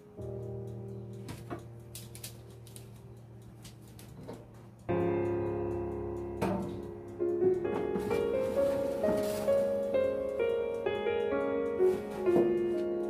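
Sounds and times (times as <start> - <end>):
faint clicks: 0.0 - 13.0
slow keyboard chords: 0.0 - 13.0.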